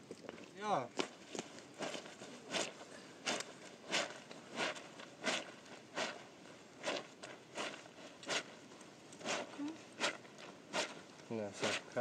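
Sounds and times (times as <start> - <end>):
clothes scrubbed against rock: 1.0 - 12.0.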